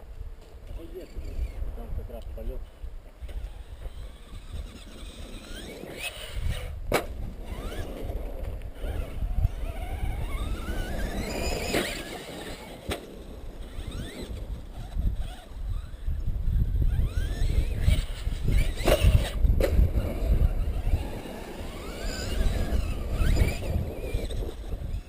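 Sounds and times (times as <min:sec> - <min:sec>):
wind on microphone: 0:00.0 - 0:25.0
electric motors whining: 0:03.1 - 0:25.0.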